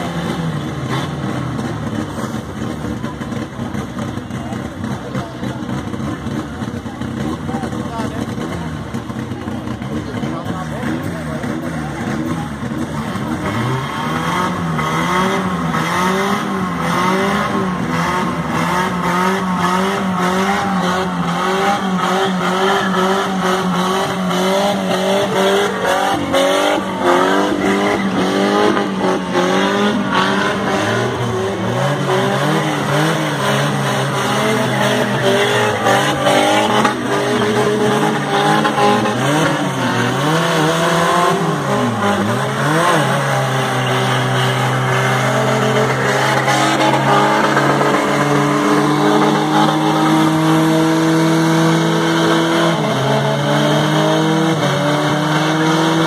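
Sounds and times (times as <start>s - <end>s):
race car engine revving: 0.0s - 56.0s
tyres skidding on dirt: 0.0s - 56.0s.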